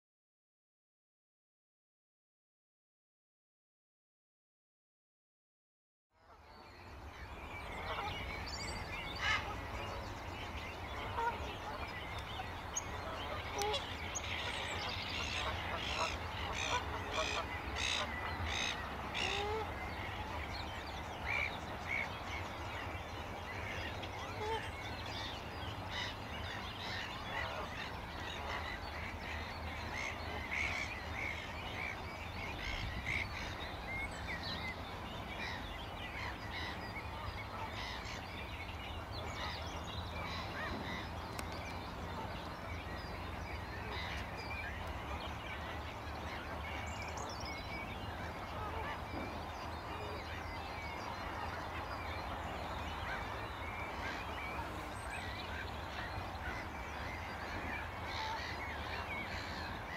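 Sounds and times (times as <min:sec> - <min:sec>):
wetland birds calling: 0:06.3 - 0:59.9.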